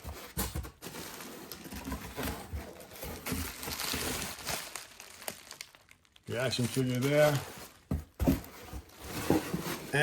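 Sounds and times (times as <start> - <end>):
packing material rustling: 0.0 - 10.0.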